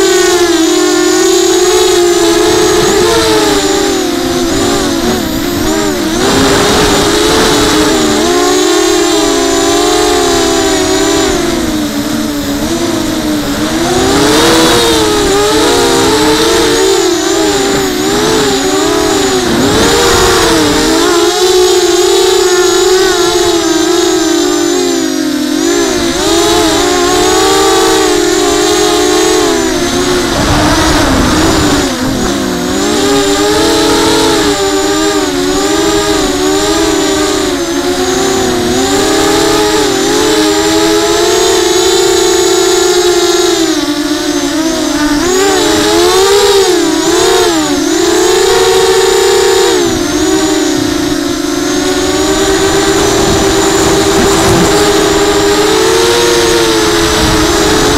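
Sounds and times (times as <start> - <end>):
quadcopter motors whining: 0.0 - 57.9
wind rumble on microphone: 1.8 - 24.9, 25.6 - 42.4, 49.6 - 57.9.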